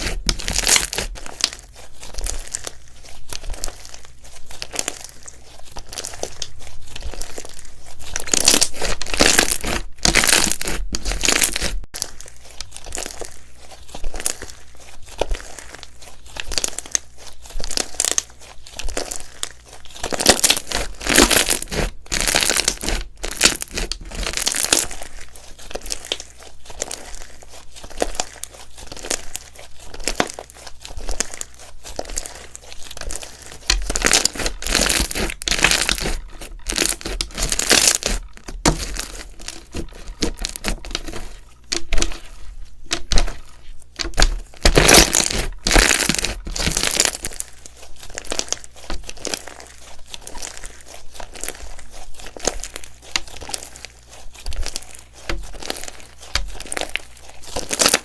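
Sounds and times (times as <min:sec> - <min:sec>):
slime crackling and squelching: 0:00.0 - 0:58.0.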